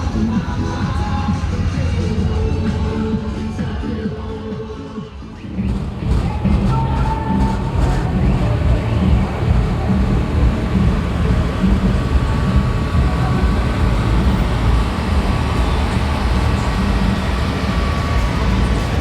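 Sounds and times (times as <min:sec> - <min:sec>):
car engines passing slowly: 0:00.0 - 0:19.0.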